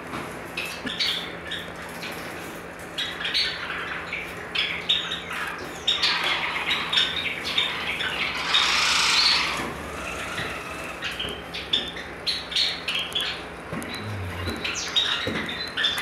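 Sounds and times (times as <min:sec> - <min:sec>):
sparrows chirping: 0:03.0 - 0:16.0.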